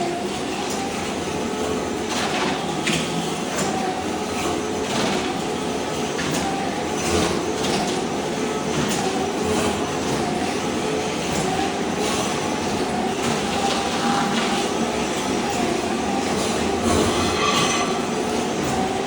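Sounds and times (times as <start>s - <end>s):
floor scraper machine running: 0.0s - 19.0s.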